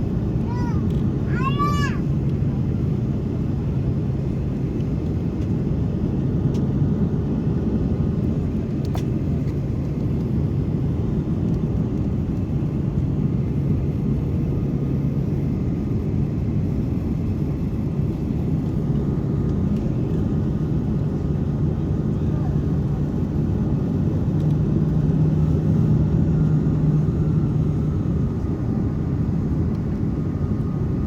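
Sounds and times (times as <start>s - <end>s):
airliner engine rumble: 0.0s - 31.0s.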